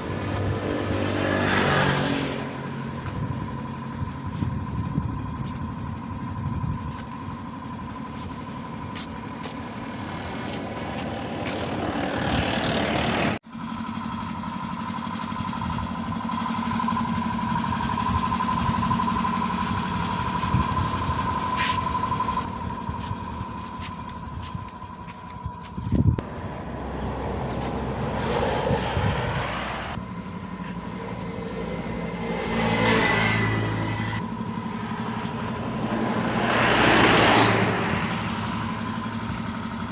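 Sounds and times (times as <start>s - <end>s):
engine running with high whine: 0.0s - 39.9s.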